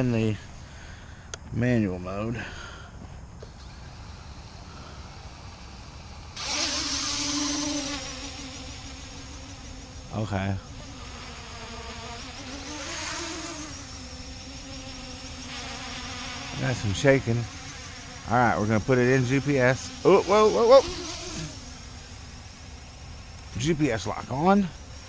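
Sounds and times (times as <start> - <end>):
quadcopter propellers buzzing: 3.4 - 25.0.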